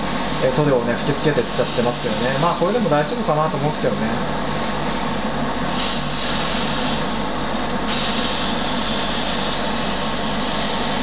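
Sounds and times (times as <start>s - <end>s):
airbrush spraying hiss: 0.0s - 0.8s, 1.4s - 11.0s
fan humming: 0.0s - 11.0s.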